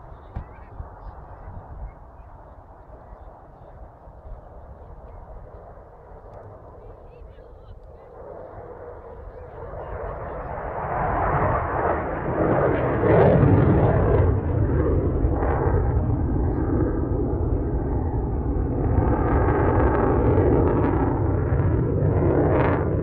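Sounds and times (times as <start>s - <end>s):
fighter jet flying past: 0.0s - 23.0s.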